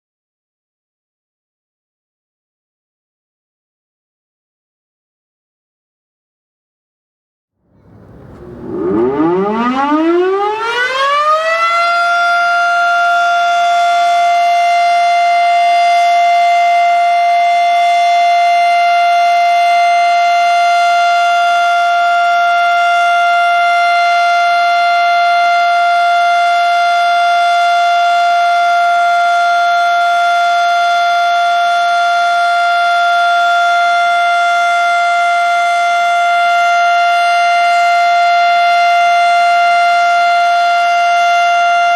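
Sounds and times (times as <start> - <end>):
warning siren winding up: 7.8 - 41.9.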